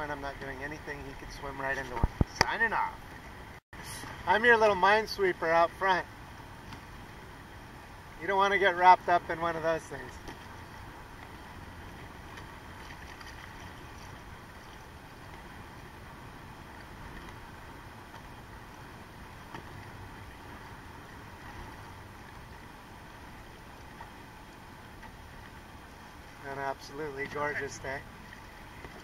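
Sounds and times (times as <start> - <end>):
choppy ocean water: 0.0 - 29.0
wind: 0.0 - 29.0.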